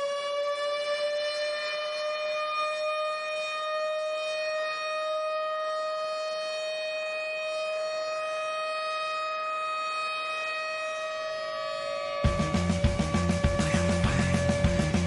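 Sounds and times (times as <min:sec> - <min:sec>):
steady siren-like tone: 0:00.0 - 0:15.0.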